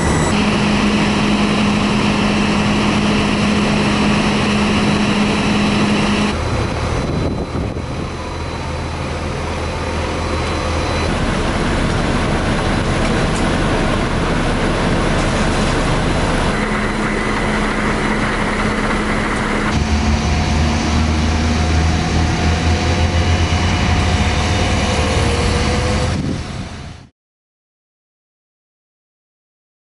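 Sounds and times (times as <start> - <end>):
diesel engine drone: 0.0 - 27.1.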